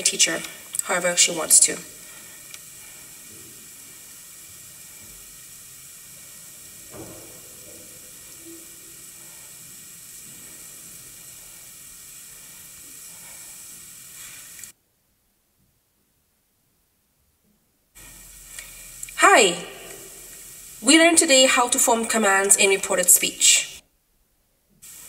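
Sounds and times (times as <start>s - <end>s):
steady recording hiss: 0.0s - 25.0s.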